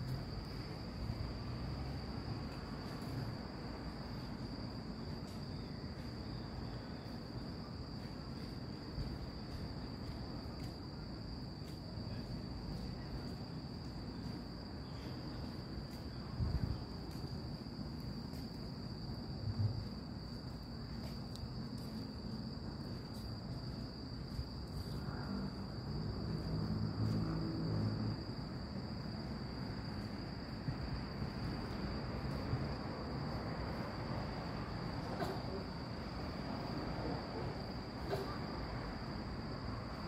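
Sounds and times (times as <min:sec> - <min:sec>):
night insects chirring: 0:00.0 - 0:40.0.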